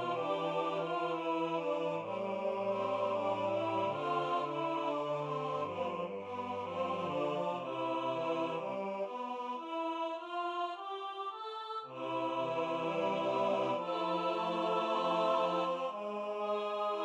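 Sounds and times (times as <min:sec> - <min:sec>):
synthetic choir chords: 0:00.0 - 0:17.0.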